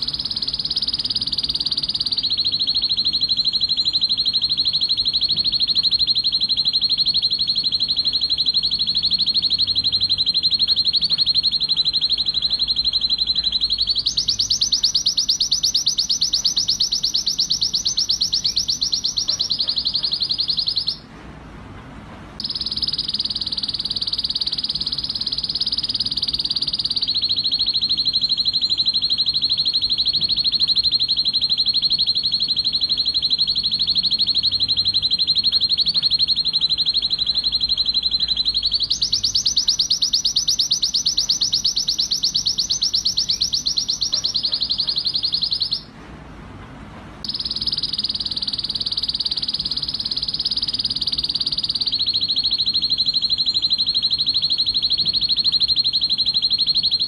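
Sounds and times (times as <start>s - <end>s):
canary singing rapid trills: 0.0s - 21.1s, 22.4s - 45.9s, 47.2s - 57.0s.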